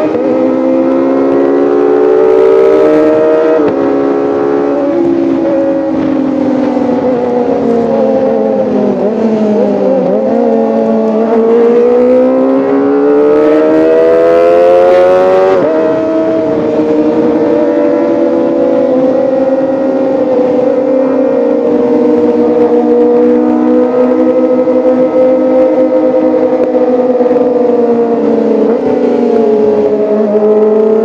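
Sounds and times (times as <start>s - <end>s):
motorcycle engine revving high: 0.0s - 31.0s.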